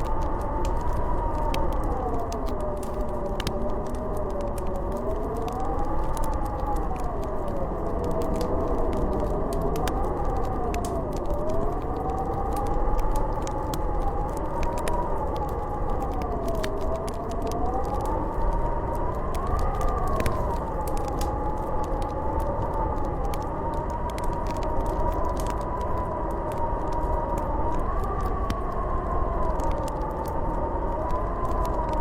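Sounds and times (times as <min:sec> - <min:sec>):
wind howling and whistling: 0:00.0 - 0:32.0
wood fire crackling: 0:00.0 - 0:32.0.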